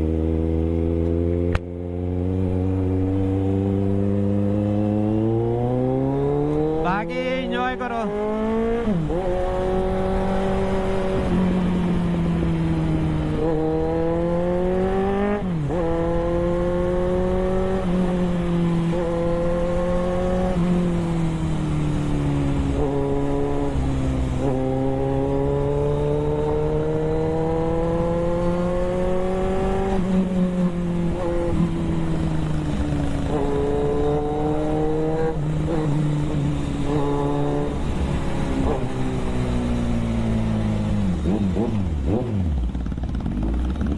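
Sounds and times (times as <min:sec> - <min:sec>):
motorbike engine accelerating: 0:00.0 - 0:43.9.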